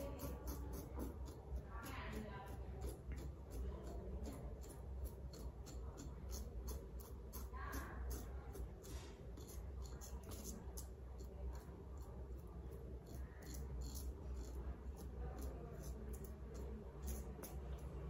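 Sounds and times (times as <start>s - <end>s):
razor scraping stubble: 0.0s - 18.0s.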